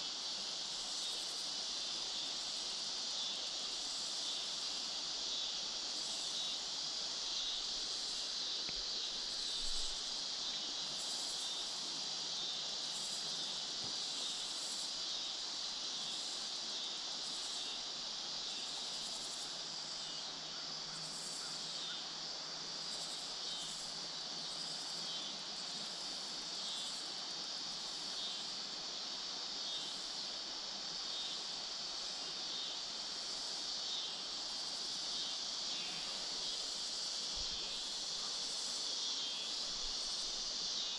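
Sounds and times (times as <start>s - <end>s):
insects buzzing: 0.0s - 40.9s.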